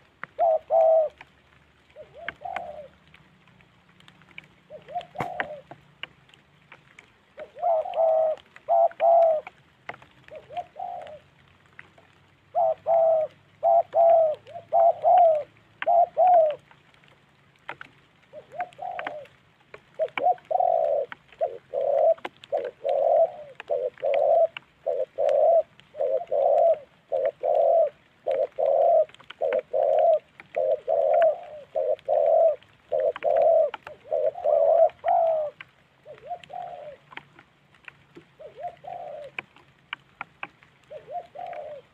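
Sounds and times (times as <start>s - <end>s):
doves cooing: 0.0s - 3.5s, 4.2s - 6.2s, 7.2s - 39.7s, 40.4s - 41.9s.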